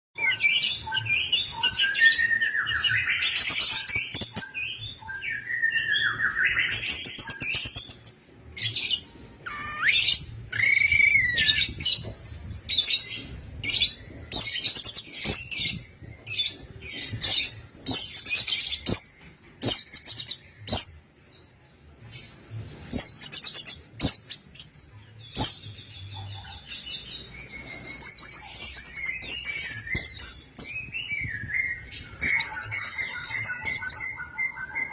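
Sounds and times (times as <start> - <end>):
thrush singing trills: 0.2 - 34.9.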